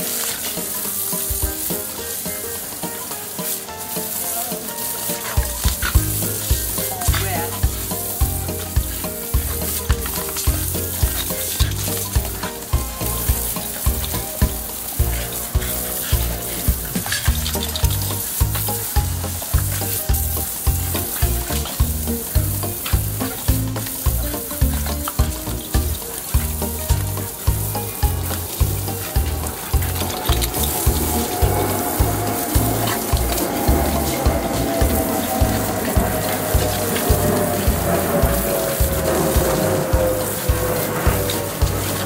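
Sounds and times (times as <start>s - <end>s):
garden hose spraying water: 0.0s - 42.0s
music with bass beat: 0.0s - 42.0s.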